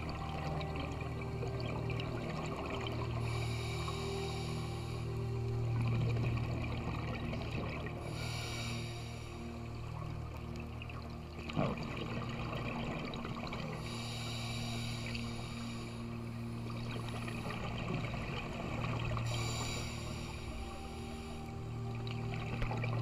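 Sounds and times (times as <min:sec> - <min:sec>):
fine crackle: 0:00.0 - 0:23.0
underwater low hum: 0:00.0 - 0:23.0.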